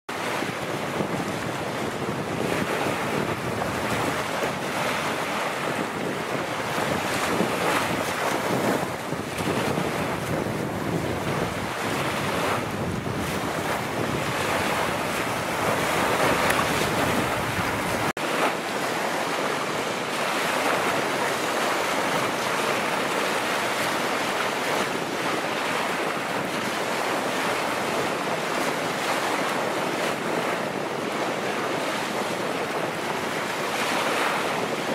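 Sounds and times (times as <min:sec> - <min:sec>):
waves washing: 0:00.1 - 0:34.9
wind on microphone: 0:00.1 - 0:34.9.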